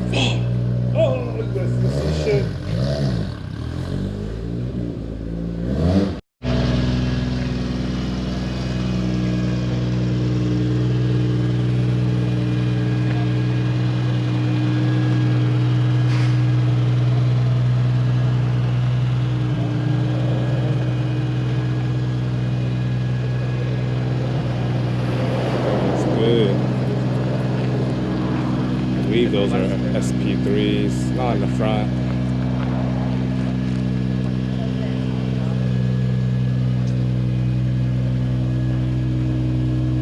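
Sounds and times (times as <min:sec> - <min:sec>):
car engine idling: 0:00.0 - 0:02.8, 0:06.4 - 0:40.0.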